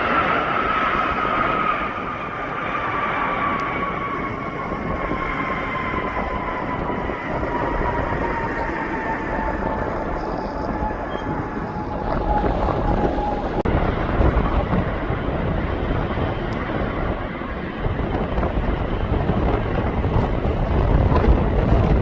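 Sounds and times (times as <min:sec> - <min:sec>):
jet engine roaring: 0:00.0 - 0:22.0
jet engine whine falling in pitch: 0:00.0 - 0:22.0.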